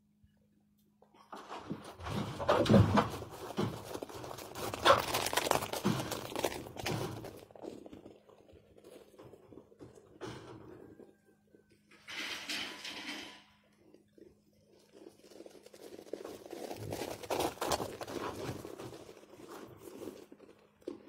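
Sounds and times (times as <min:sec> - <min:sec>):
crunching and rustling: 0:01.4 - 0:12.4, 0:13.6 - 0:21.0.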